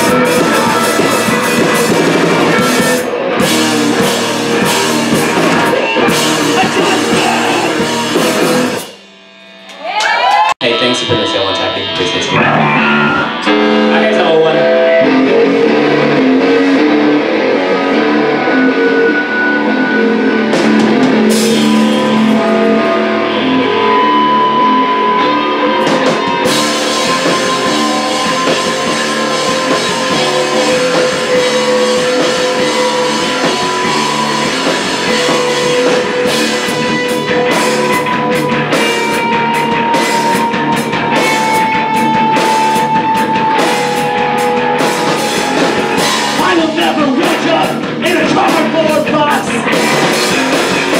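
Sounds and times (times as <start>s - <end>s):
drum kit: 0.0s - 18.9s, 20.1s - 50.9s
bass guitar: 0.0s - 50.9s
electric guitars: 0.0s - 50.9s.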